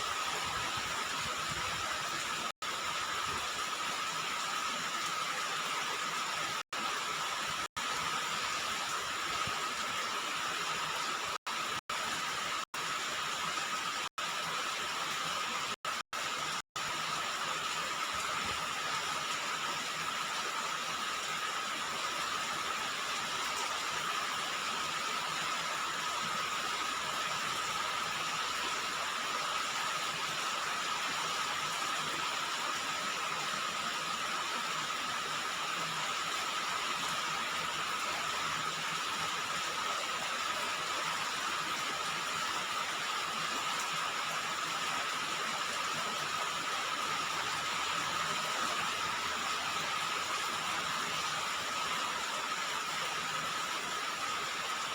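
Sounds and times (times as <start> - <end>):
rain on a roof: 0.0 - 54.9.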